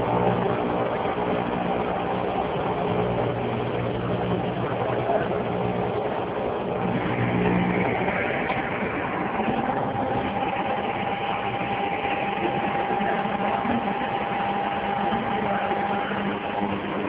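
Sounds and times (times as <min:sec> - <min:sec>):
machining center humming: 0:00.0 - 0:17.0
thin steady whine: 0:00.0 - 0:17.0.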